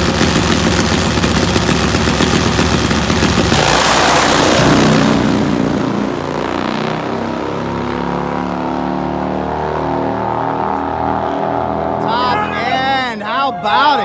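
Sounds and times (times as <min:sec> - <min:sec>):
motorcycle engines coasting down: 0:00.0 - 0:13.9.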